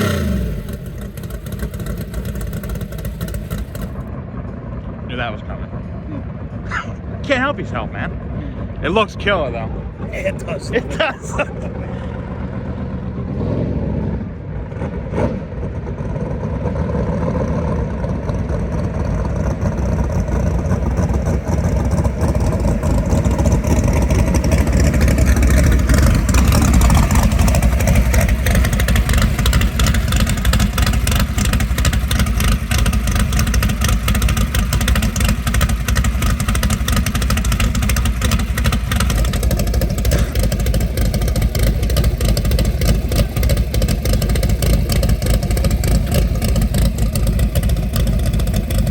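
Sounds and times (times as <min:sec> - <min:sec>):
car engine at high revs: 0:00.0 - 0:04.1, 0:08.4 - 0:48.9.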